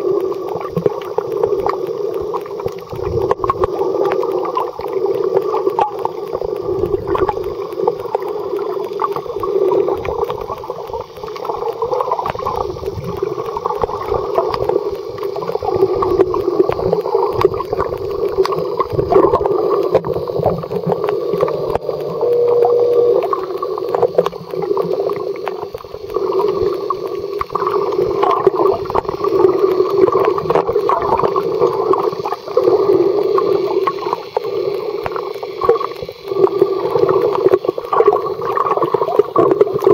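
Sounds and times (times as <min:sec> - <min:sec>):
steady tone: 0:00.0 - 0:38.6
underwater low drone: 0:00.0 - 0:39.9
water gurgling and crackling: 0:00.0 - 0:39.9.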